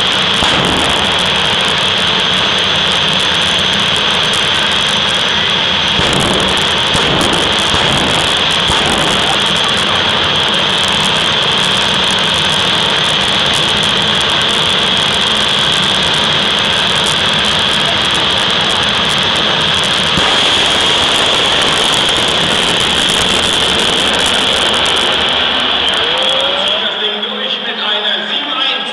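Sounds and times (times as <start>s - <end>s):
jet engine high whine: 0.0s - 28.9s
jet engine roaring: 0.0s - 28.9s.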